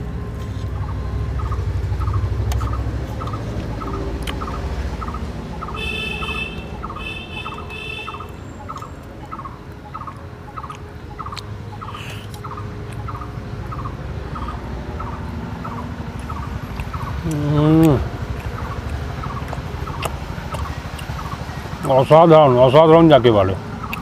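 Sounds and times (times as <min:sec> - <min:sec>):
bird chirping trills: 0:00.0 - 0:24.0.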